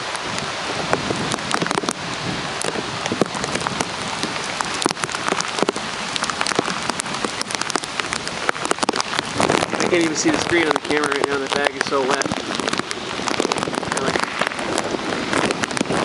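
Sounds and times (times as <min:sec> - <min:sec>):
heavy rain hiss: 0:00.0 - 0:16.0
raindrops tapping plastic bag: 0:00.0 - 0:16.0.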